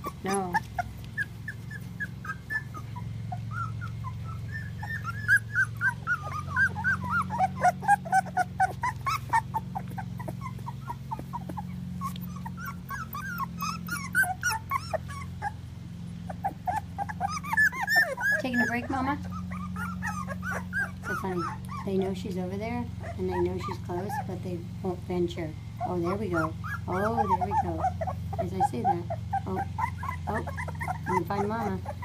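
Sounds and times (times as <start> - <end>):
puppies whining and squeaking: 0.0 - 32.0.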